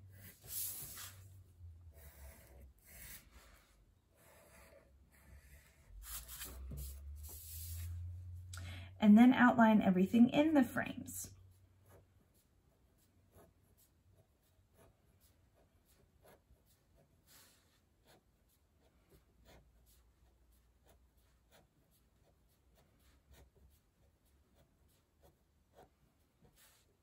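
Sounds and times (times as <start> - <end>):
marker scratching on paper: 0.1 - 8.1, 11.4 - 27.0.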